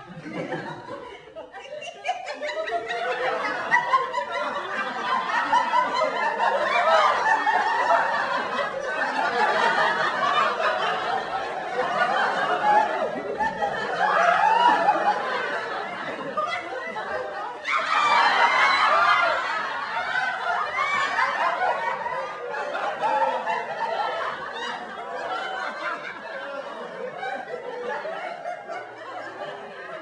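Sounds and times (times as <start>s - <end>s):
studio audience laughing: 0.0s - 30.0s.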